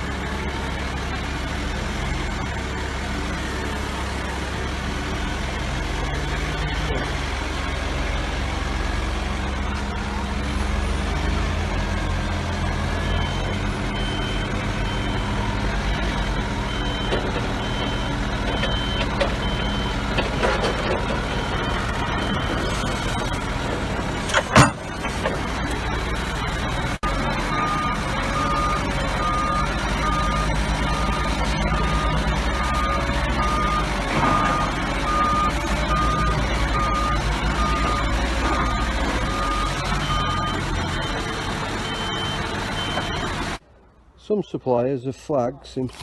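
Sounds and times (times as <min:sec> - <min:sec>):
forklift engine running: 0:00.0 - 0:44.0
reversing alarm beeping: 0:00.1 - 0:43.6.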